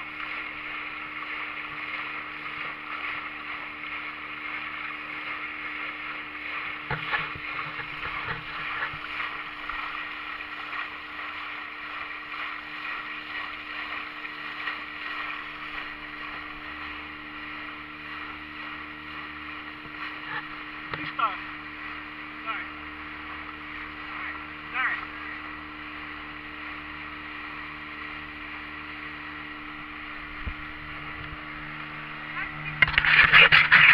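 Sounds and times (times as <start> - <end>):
motorboat engine hum: 0.0 - 33.9
rushing water and wind: 0.0 - 33.9.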